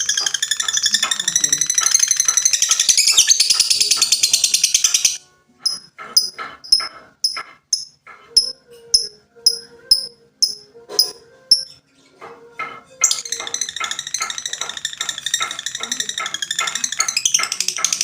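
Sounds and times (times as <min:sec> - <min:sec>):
lovebird chattering trill: 0:00.0 - 0:11.8, 0:13.0 - 0:18.0
lovebird chirps: 0:00.0 - 0:12.2, 0:13.0 - 0:18.0.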